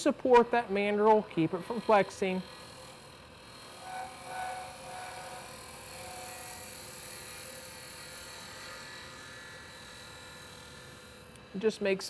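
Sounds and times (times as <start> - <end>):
wood lathe humming: 0.0 - 12.0.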